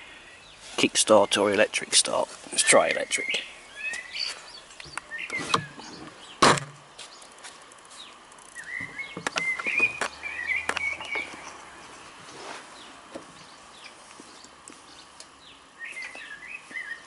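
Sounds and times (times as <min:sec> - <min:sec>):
birds chirping and singing: 0:00.0 - 0:06.4, 0:07.0 - 0:12.1, 0:12.7 - 0:17.0.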